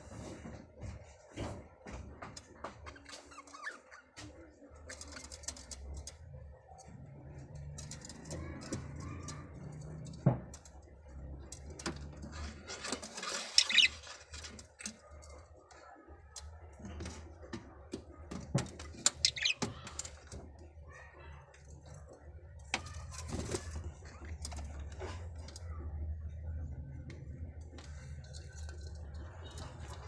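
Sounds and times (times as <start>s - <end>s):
scratching and shuffling: 0.0s - 30.0s.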